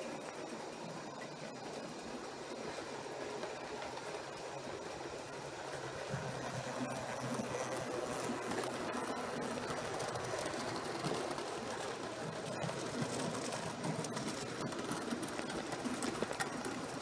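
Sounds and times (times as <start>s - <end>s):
model train wheels rattling: 1.4s - 17.0s.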